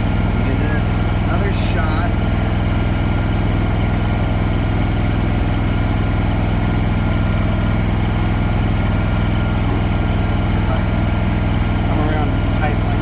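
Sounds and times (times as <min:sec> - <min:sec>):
welder engine running: 0:00.0 - 0:13.0.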